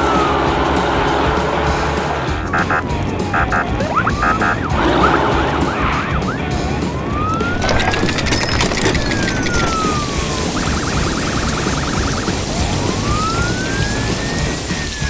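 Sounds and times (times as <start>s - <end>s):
cartoon siren: 0.0s - 0.6s, 2.4s - 15.0s.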